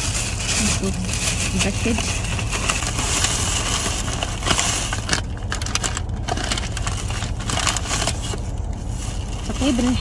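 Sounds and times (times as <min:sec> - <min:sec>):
car cabin hum: 0:00.0 - 0:10.0
plastic bag crinkling: 0:00.0 - 0:10.0.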